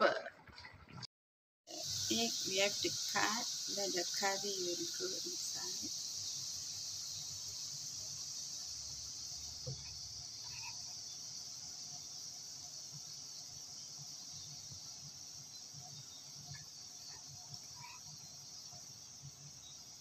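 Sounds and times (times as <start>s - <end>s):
insects chirring: 1.7s - 20.0s.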